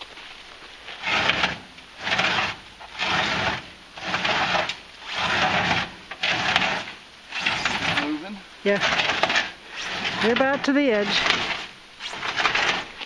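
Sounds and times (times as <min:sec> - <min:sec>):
tarp scraping across trailer: 0:00.0 - 0:13.0.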